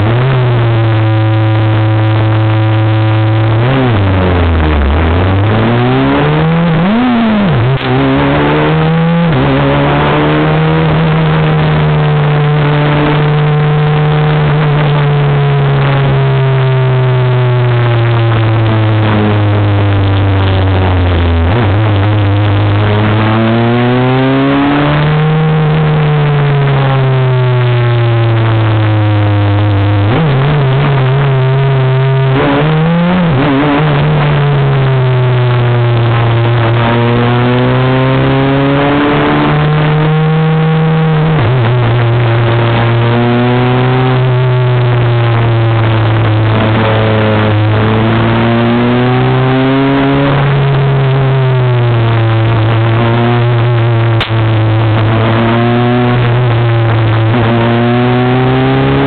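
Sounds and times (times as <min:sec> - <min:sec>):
racing car engine at high revs: 0:00.0 - 0:59.0.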